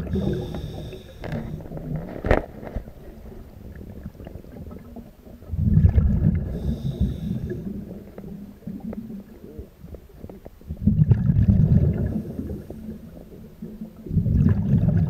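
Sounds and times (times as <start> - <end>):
low water noise: 0.0 - 15.0
underwater exhaled air bubbles: 0.0 - 15.0.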